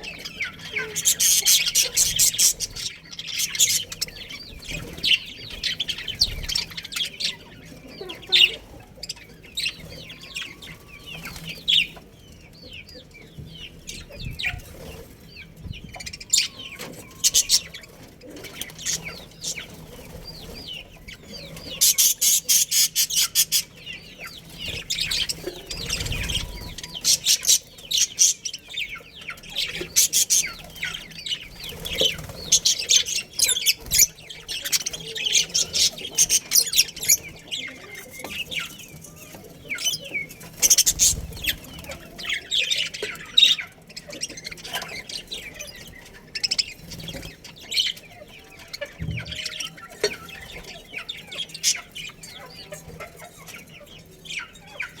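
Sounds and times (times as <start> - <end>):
budgerigars chirping: 0.0 - 55.0.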